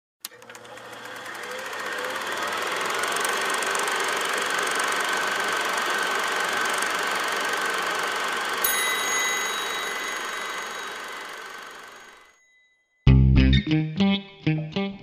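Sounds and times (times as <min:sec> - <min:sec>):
film projector clattering: 0:00.2 - 0:12.4
projector high whine: 0:00.3 - 0:12.4.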